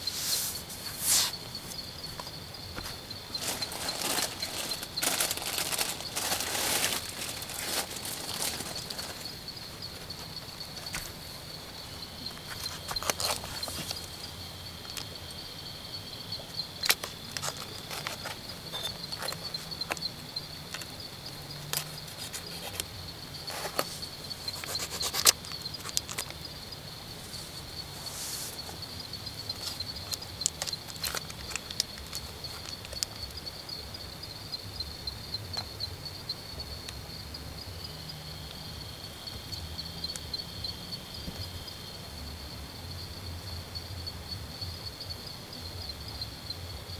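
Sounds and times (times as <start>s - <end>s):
high insect trill: 0.0s - 46.9s.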